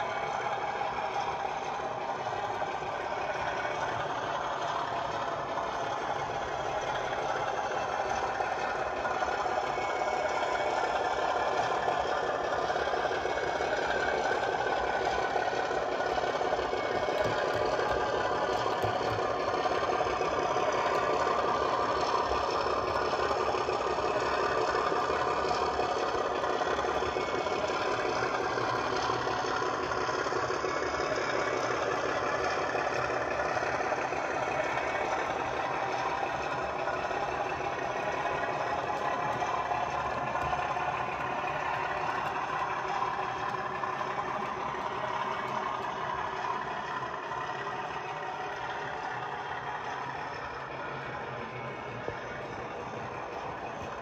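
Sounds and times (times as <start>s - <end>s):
model diesel engine sound: 0.0s - 54.0s.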